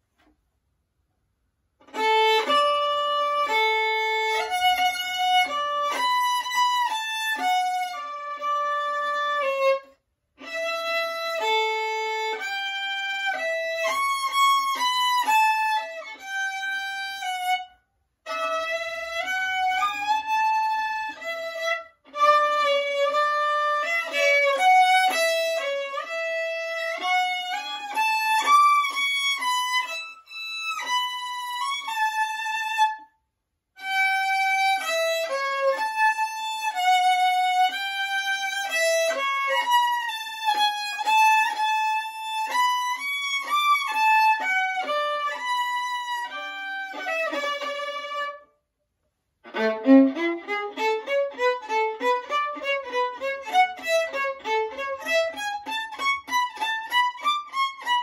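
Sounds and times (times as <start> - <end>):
solo violin melody: 1.8 - 48.6, 49.4 - 58.0.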